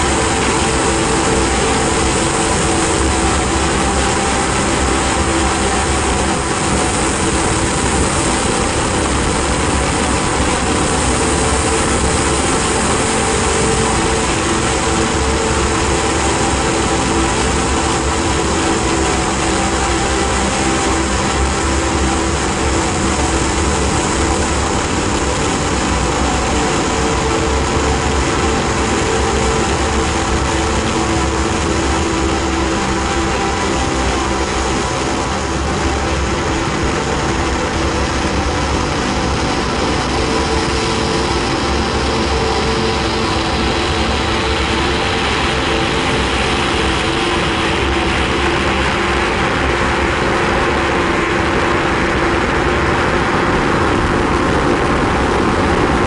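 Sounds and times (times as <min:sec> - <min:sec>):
ambient drone music: 0:00.0 - 0:56.0.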